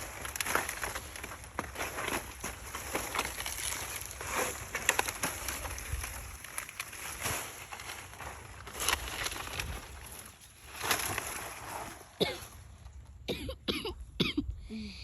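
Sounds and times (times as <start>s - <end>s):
dry branches crackling and snapping: 0.0s - 12.2s.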